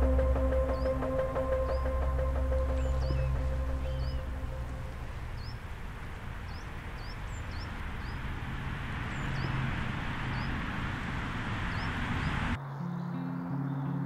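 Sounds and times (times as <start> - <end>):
background hiss: 0.0 - 12.6
small birds chirping: 0.0 - 12.6
low sustained music notes: 0.0 - 14.0.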